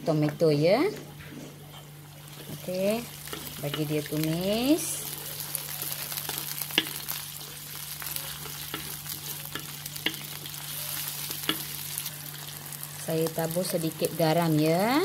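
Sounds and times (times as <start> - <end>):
vegetables sizzling in oil: 1.5 - 15.0.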